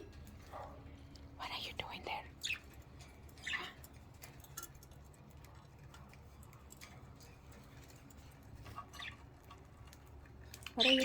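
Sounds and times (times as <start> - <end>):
budgies clicking and pecking: 0.1 - 11.0.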